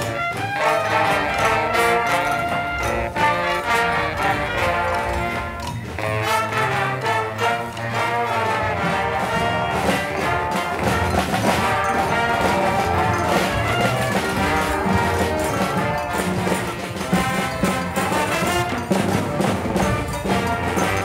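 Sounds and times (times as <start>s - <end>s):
brass band playing: 0.0s - 21.0s
drum beat: 0.0s - 21.0s.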